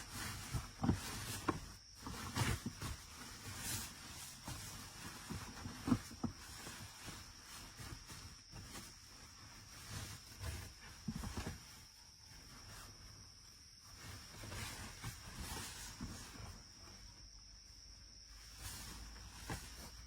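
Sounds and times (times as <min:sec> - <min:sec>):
soft knocks and rustles: 0:00.0 - 0:17.4, 0:18.3 - 0:20.0
crickets trilling: 0:00.0 - 0:20.0.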